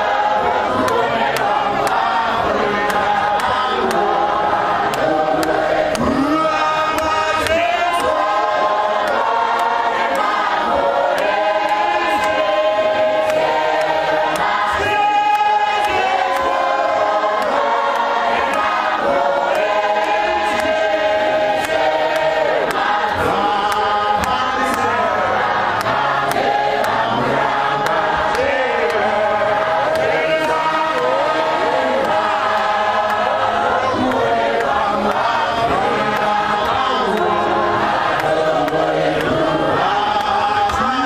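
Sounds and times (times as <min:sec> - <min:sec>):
man singing over a microphone: 0:00.0 - 0:10.3, 0:11.2 - 0:21.4, 0:22.1 - 0:41.0
congregation singing a hymn: 0:00.0 - 0:41.0.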